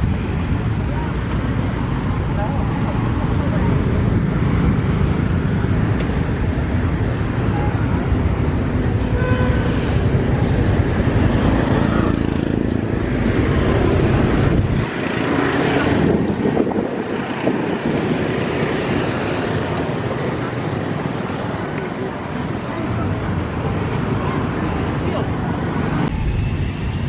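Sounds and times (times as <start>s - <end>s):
passing traffic: 0.0s - 27.0s
wind on microphone: 0.0s - 27.0s.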